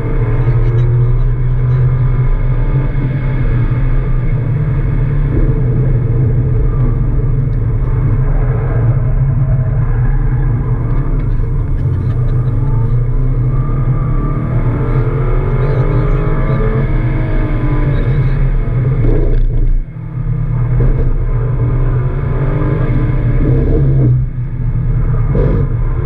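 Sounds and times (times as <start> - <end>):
car engine running hard: 0.0 - 26.0.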